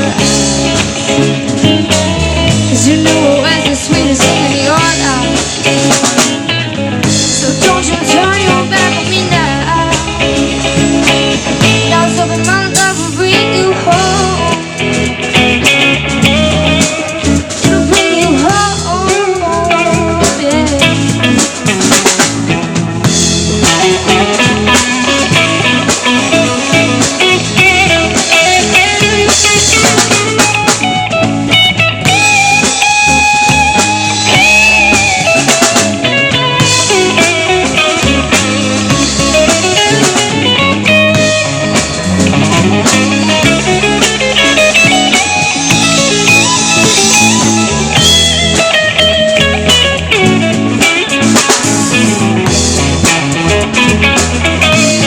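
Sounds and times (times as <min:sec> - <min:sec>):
drum kit: 0:00.0 - 0:55.0
guitar melody with bent notes: 0:00.0 - 0:55.0
live band playing blues-rock: 0:00.0 - 0:55.0.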